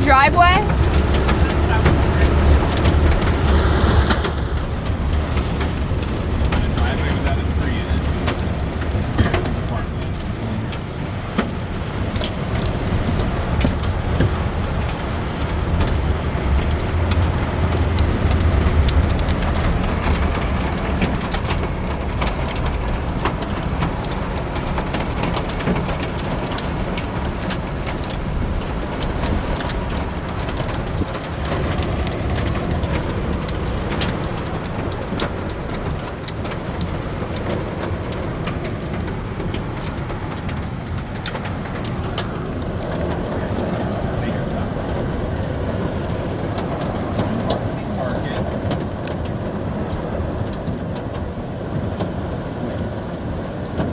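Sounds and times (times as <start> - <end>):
heavy rain on car roof: 0.0 - 53.9.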